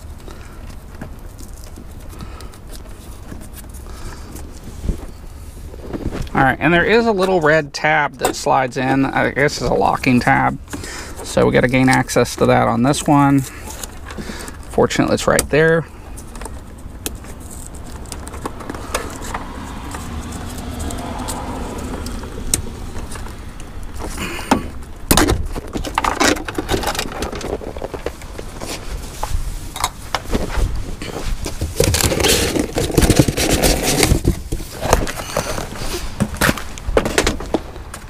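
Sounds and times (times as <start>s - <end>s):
low steady rumble: 0.0s - 33.0s
rustling and scraping: 0.0s - 38.0s.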